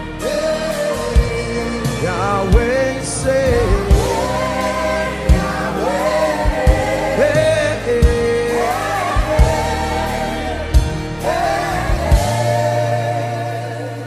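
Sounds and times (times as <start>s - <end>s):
band playing: 0.0s - 14.0s
voices singing gospel: 0.0s - 14.0s.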